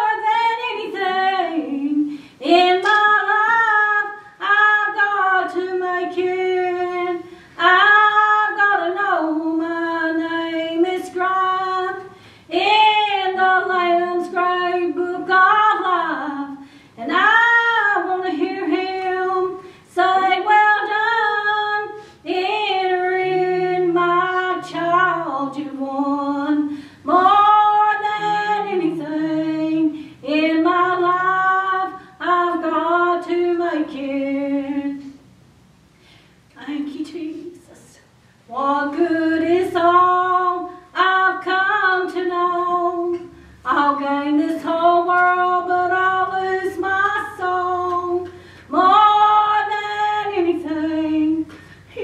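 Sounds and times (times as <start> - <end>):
woman singing slow song: 0.0 - 35.2, 36.5 - 52.0.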